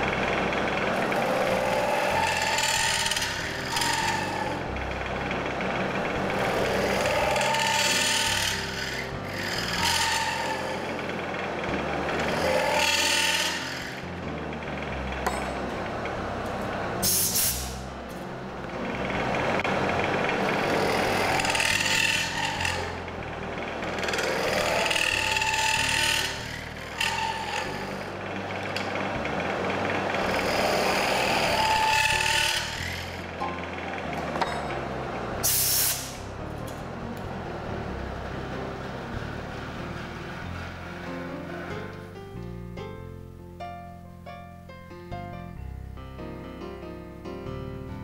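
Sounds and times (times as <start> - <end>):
turning tool scraping wood: 0.0 - 18.0, 18.7 - 33.4, 34.0 - 42.0
lathe humming: 0.0 - 42.2.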